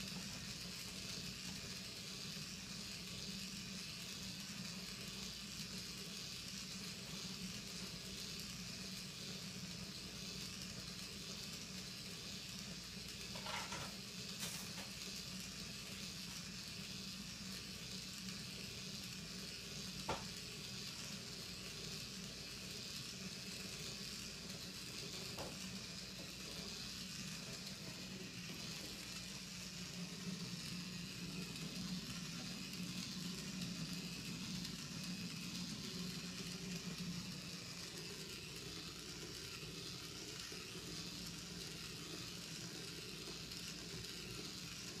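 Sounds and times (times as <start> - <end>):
steady hiss: 0.0 - 45.0.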